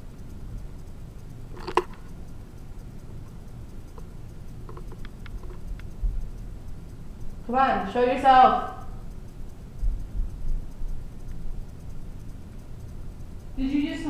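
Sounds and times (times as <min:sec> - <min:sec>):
faint light ticks: 0:00.0 - 0:14.0
low steady hum: 0:00.0 - 0:14.0.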